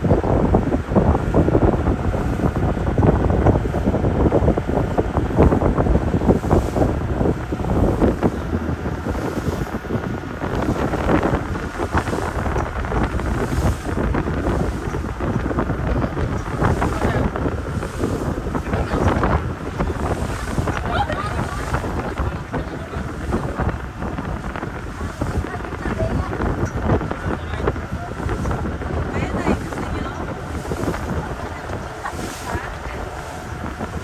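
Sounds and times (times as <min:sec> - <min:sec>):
open sea rushing: 0:00.0 - 0:34.0
wind buffeting microphone: 0:00.0 - 0:34.0.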